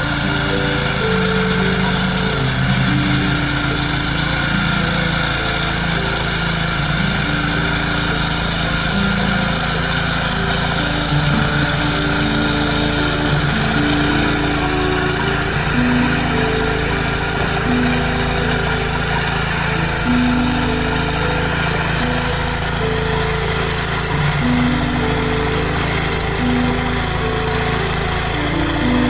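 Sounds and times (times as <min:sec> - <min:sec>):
tiller petrol engine running: 0:00.0 - 0:29.0.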